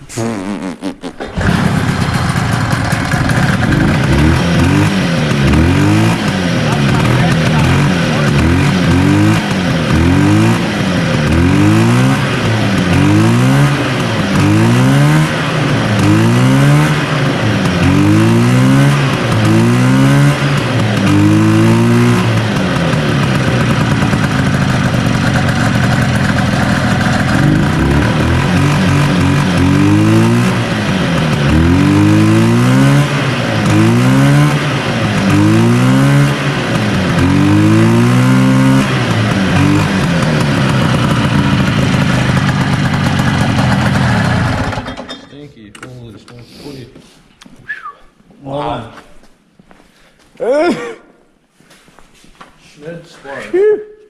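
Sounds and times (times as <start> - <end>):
snowmobile engine revving roughly: 0.0 - 44.9.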